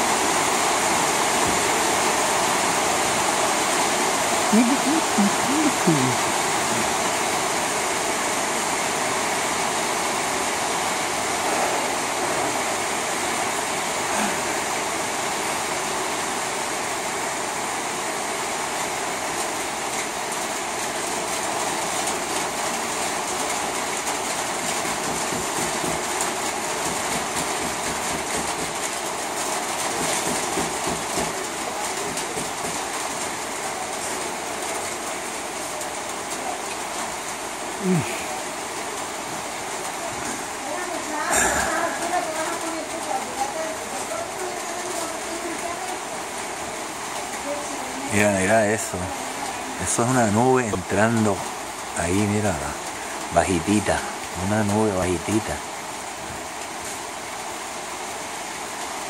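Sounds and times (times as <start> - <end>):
heavy rain on a metal roof: 0.0 - 59.0.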